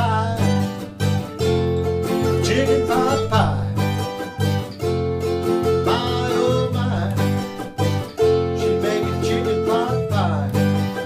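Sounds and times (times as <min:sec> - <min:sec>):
country acoustic guitar strumming: 0:00.0 - 0:11.0.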